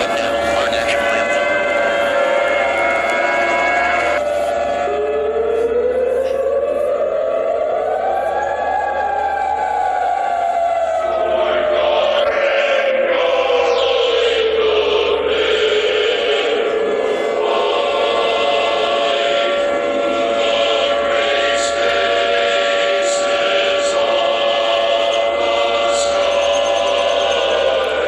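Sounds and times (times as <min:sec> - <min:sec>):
siren wailing: 0:00.0 - 0:28.0.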